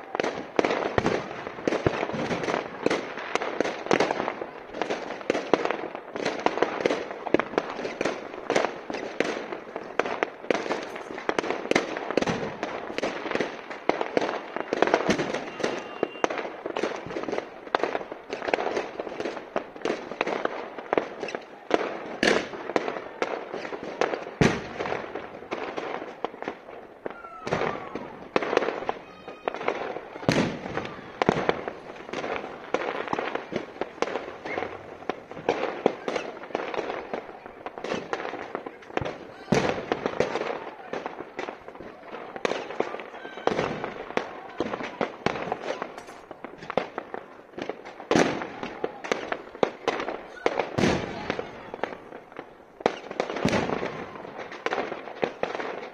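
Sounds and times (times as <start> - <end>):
fireworks crackling and popping: 0.0 - 55.9
loud firecracker bangs: 0.0 - 55.9.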